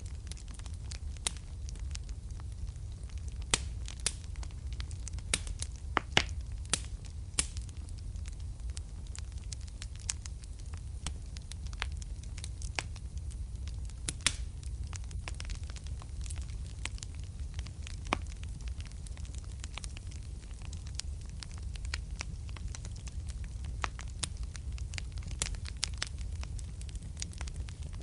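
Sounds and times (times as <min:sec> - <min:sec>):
fire crackling and popping: 0:00.0 - 0:28.0
low rumble of fire: 0:00.0 - 0:28.0.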